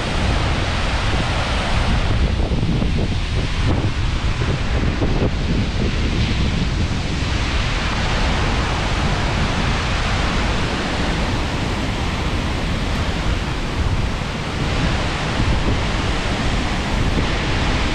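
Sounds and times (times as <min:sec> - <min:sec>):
waterfall rushing: 0:00.0 - 0:17.9
wind buffeting microphone: 0:00.0 - 0:17.9.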